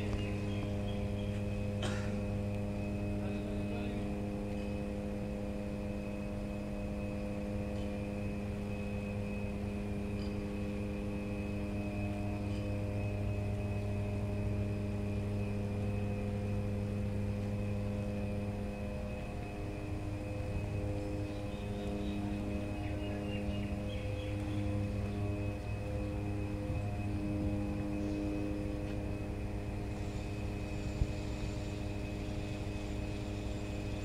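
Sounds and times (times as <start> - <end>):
faint high whine: 0.0 - 34.0
transformer electrical hum: 0.0 - 34.0.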